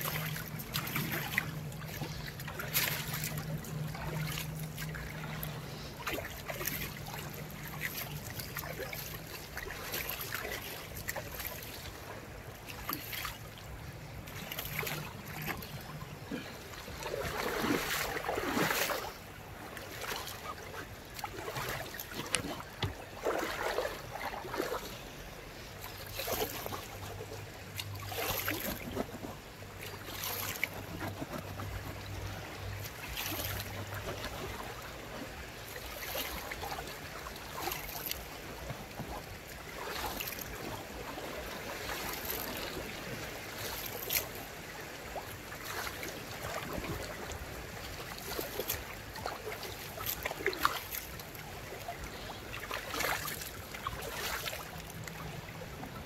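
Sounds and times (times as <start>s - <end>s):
small water cascade: 0.0s - 56.0s
stream trickling over stones: 0.0s - 56.0s.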